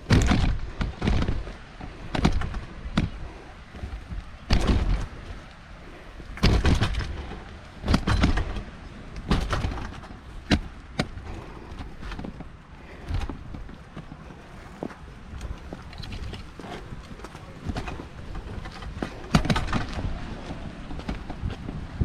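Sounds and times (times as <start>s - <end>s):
dull thumps and knocks: 0.0s - 3.2s, 3.8s - 5.4s, 6.3s - 21.9s.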